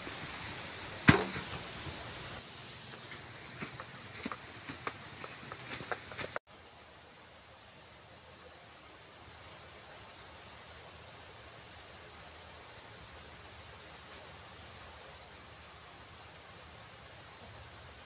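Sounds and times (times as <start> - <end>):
insect chorus buzzing: 0.0 - 18.0.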